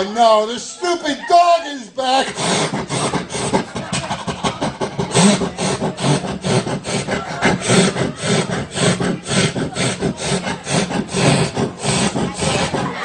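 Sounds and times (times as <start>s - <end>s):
rhythmic breathy vocal sounds: 2.1s - 13.0s.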